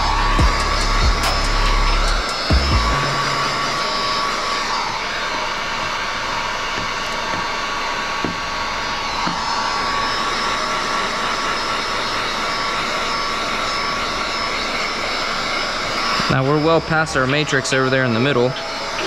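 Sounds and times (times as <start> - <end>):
heat gun blowing: 0.0 - 19.0.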